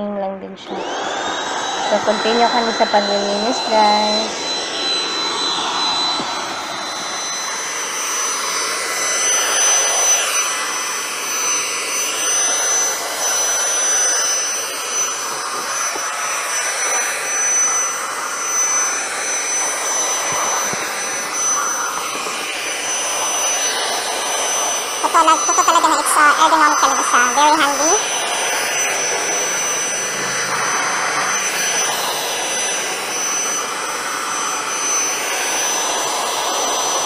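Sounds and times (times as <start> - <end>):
handheld vacuum cleaner running: 0.6 - 37.0.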